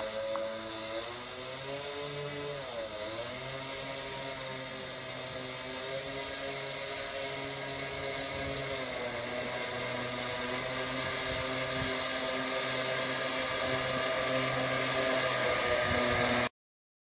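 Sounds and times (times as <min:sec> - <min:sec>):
model plane motors whirring: 0:00.0 - 0:16.5.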